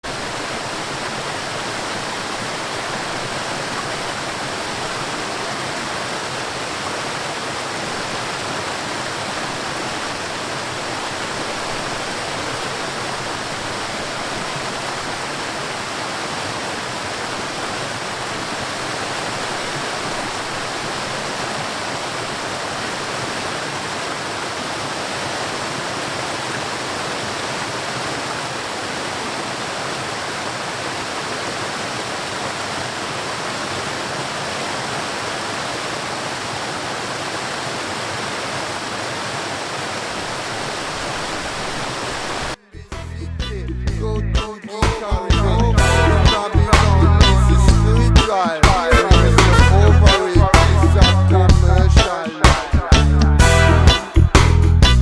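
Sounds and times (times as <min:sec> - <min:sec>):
waterfall and stream rushing: 0:00.0 - 0:42.6, 0:44.5 - 0:52.8.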